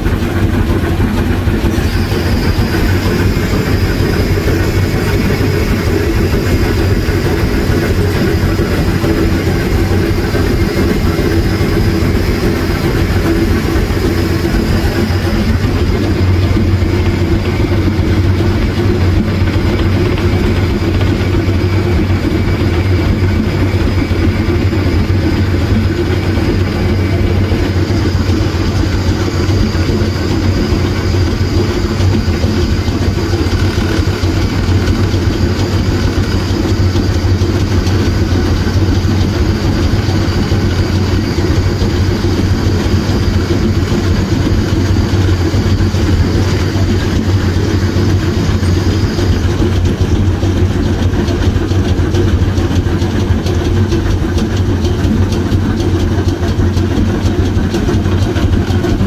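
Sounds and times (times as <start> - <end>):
train rumbling and rattling: 0.0 - 59.0.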